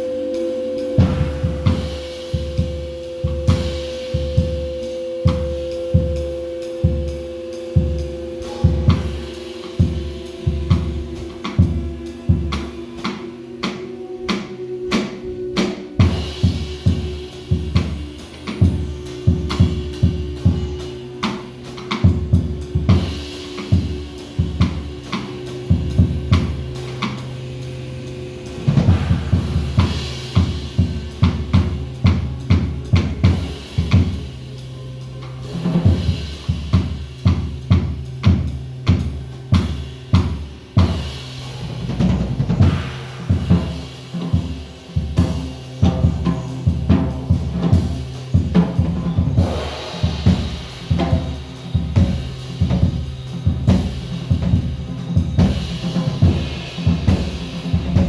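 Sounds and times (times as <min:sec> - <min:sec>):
drum kit beat: 0:00.0 - 0:58.0
held bass notes: 0:00.0 - 0:58.0.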